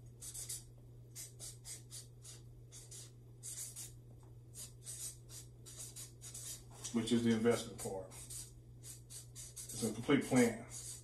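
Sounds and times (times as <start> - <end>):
steady low hum: 0.0 - 11.0
marker writing on paper: 0.2 - 4.0, 4.6 - 11.0.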